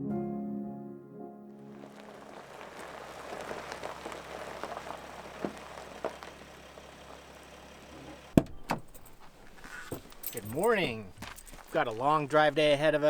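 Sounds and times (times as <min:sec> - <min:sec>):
campfire crackling: 0:01.6 - 0:13.0.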